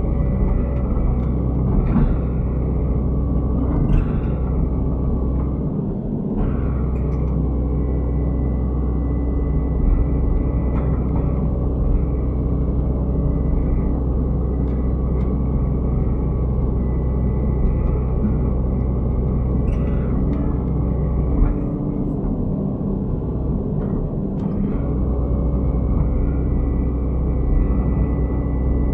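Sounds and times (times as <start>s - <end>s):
diesel engine droning: 0.0s - 28.9s.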